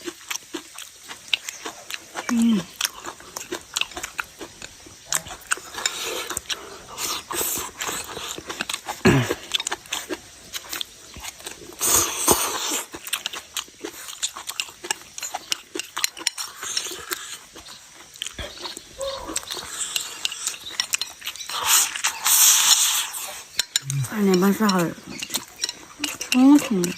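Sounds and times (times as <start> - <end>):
person chewing food: 0.0 - 26.9.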